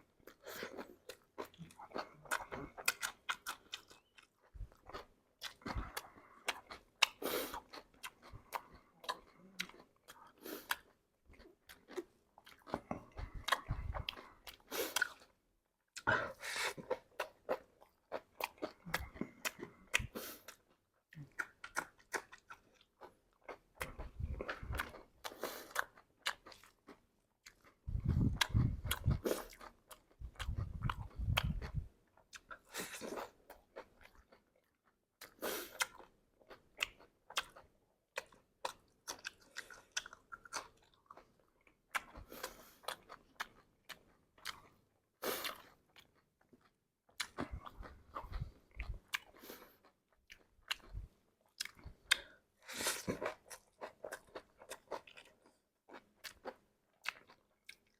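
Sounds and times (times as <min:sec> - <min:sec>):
chewing crunchy food: 0:00.0 - 0:57.9.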